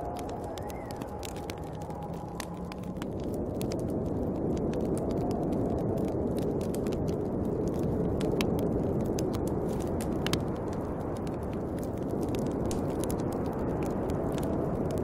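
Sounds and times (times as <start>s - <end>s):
snowstorm wind blowing: 0.0s - 15.0s
wood fire crackling: 0.0s - 15.0s.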